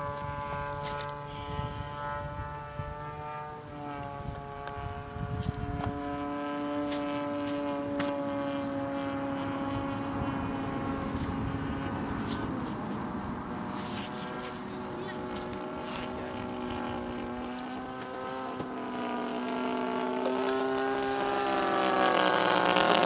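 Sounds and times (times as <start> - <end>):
model airplane engine running: 0.0 - 23.0.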